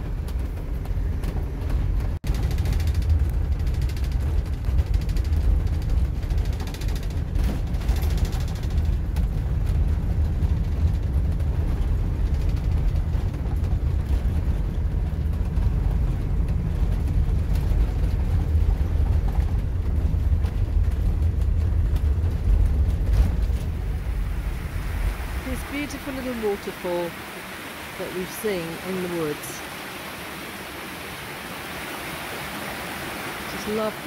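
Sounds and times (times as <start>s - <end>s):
motorhome engine and tyres rumbling: 0.0s - 34.0s.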